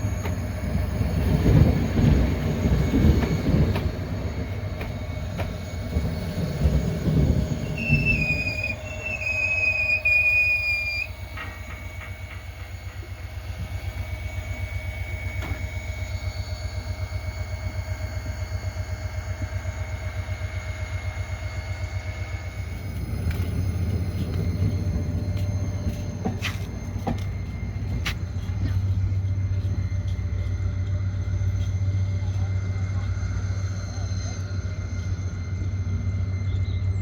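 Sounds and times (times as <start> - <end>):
locomotive engine pulsing rumble: 0.0 - 37.0
train brakes squealing: 0.0 - 37.0.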